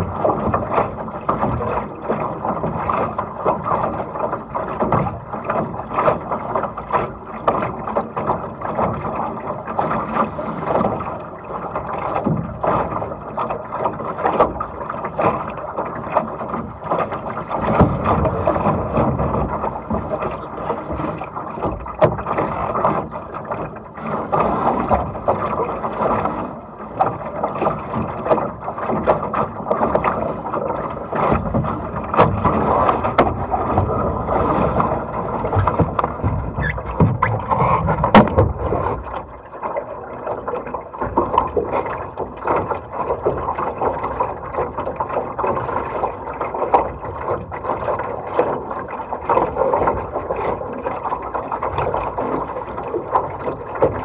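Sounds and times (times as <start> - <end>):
knocks and splashes: 0.0 - 54.0
water rushing against hull: 0.0 - 54.0.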